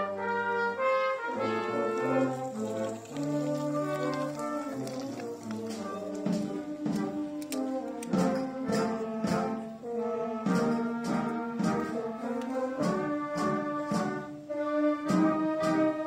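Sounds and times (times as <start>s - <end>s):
children's wind band playing: 0.0s - 16.0s.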